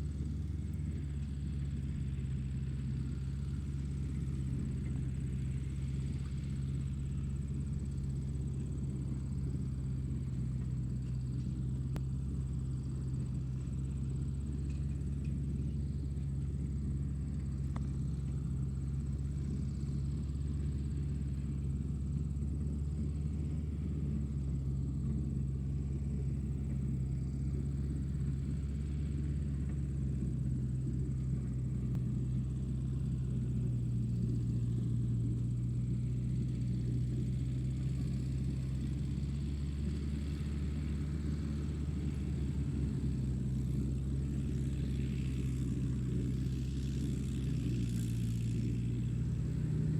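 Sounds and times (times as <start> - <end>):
tractor engine droning: 0.0 - 49.9.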